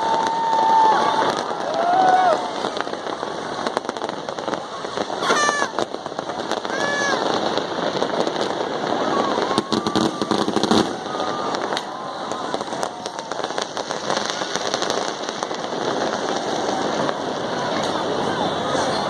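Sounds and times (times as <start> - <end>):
fireworks crackling bursts: 0.0 - 19.0.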